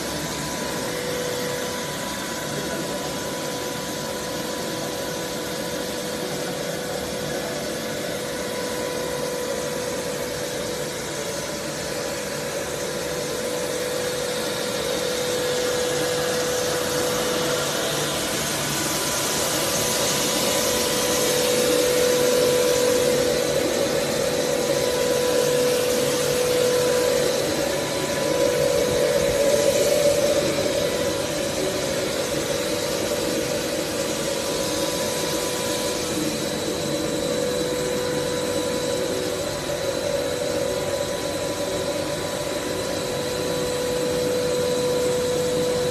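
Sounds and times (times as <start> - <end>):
extrusion machine drone: 0.0 - 45.9
machine hiss: 0.0 - 45.9.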